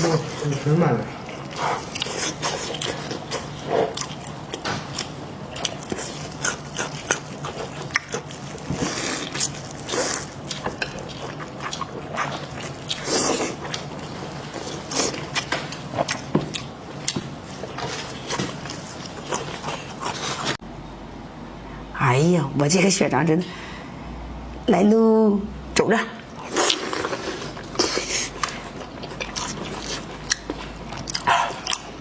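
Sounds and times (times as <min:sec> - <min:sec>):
biting and chewing: 0:00.0 - 0:20.6, 0:26.4 - 0:32.0.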